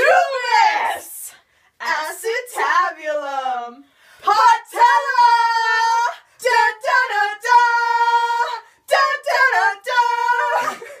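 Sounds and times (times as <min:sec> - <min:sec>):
women singing unaccompanied: 0:00.0 - 0:11.0.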